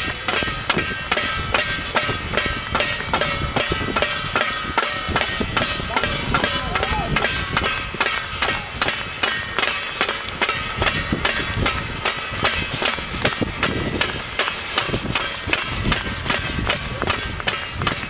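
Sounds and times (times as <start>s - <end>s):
rhythmic metallic clanging: 0.0s - 18.0s.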